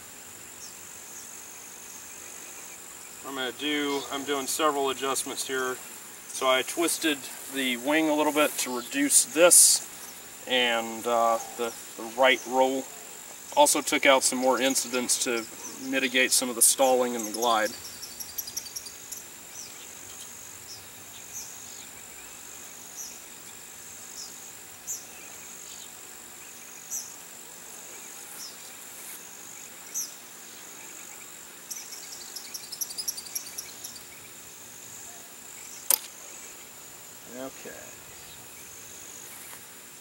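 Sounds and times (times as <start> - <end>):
high-pitched insect drone: 0.0 - 40.0.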